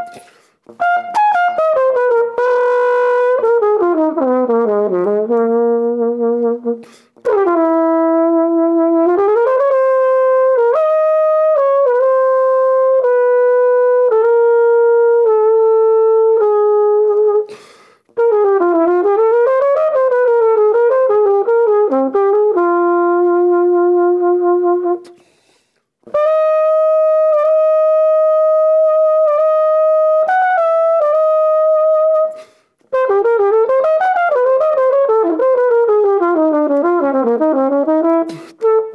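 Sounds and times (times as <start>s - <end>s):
jazz trumpet melody: 0.0s - 25.4s, 26.0s - 38.9s.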